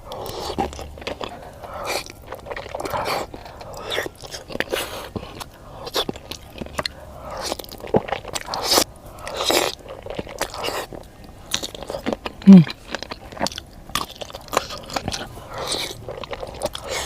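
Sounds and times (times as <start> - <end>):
crunching chewing: 0.0 - 17.0.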